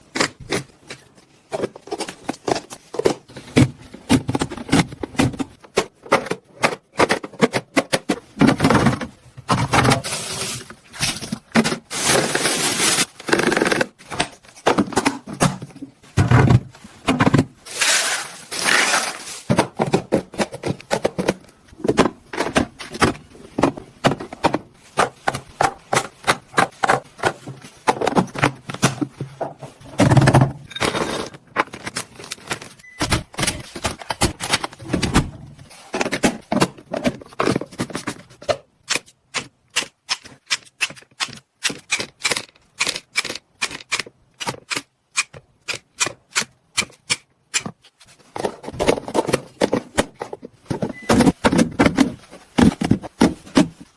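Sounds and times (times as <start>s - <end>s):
food containers clicking and knocking: 0.0s - 17.6s, 19.3s - 53.9s.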